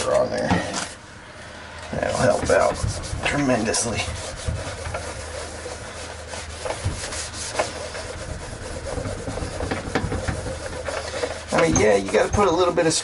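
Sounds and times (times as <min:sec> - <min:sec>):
cloth scrubbing a microwave door: 0:01.9 - 0:13.0.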